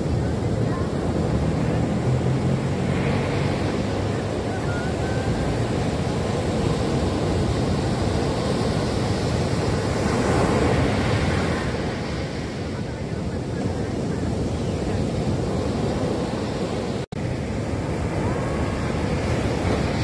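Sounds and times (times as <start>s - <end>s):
waves breaking on beach: 0.0s - 20.0s.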